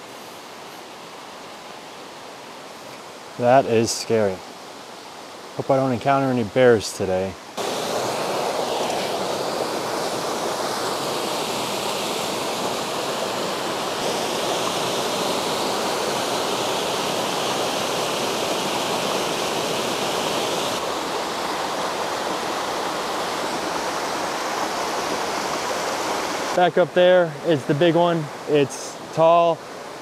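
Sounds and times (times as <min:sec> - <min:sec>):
brook water rushing over rocks: 0:00.0 - 0:30.0.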